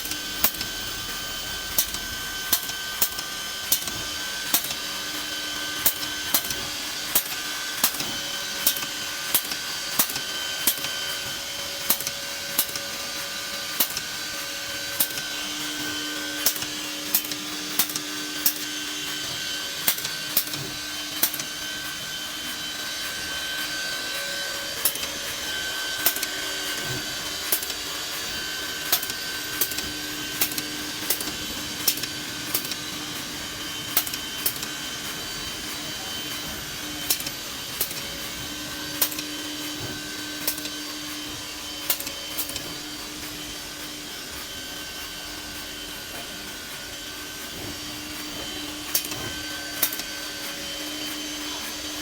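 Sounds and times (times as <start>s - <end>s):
router spindle whine: 0.0s - 52.0s.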